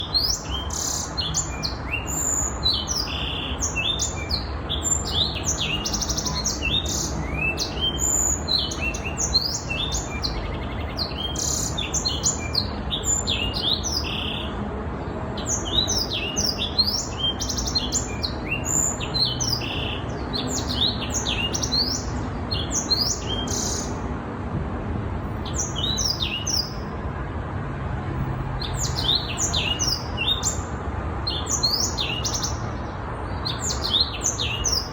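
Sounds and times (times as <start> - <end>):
canary singing: 0.0 - 14.6, 15.4 - 24.0, 28.6 - 30.6, 31.3 - 32.6, 33.4 - 34.9.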